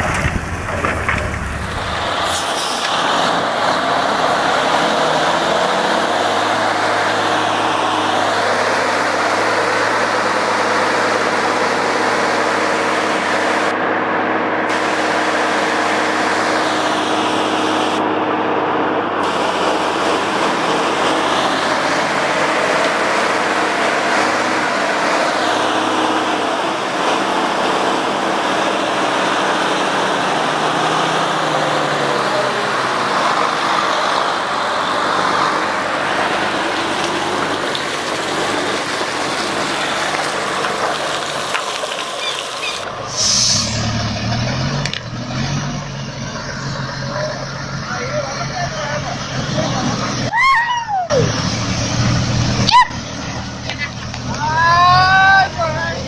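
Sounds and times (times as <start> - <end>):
vehicle engine running: 0.0 - 50.3, 51.1 - 56.0
rushing noise: 0.0 - 50.5.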